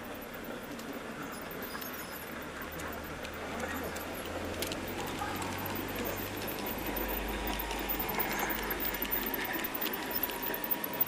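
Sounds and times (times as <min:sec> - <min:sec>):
model train hum: 0:00.0 - 0:11.0
wheels clicking on rails: 0:00.0 - 0:11.0.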